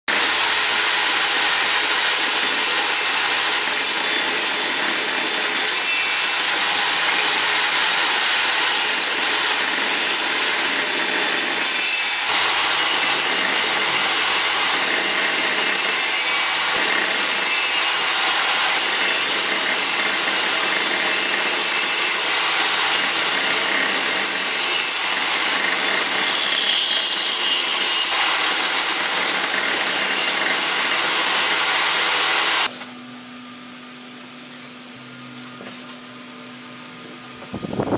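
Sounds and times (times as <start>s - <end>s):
table saw cutting wood: 0.1s - 32.9s.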